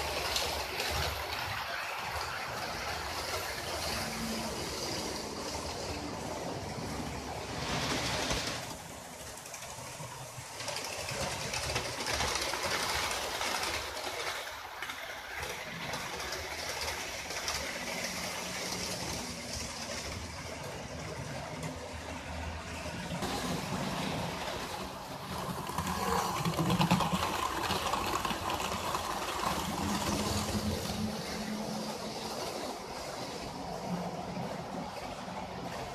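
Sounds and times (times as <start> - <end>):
model train running on track: 0.0 - 35.9.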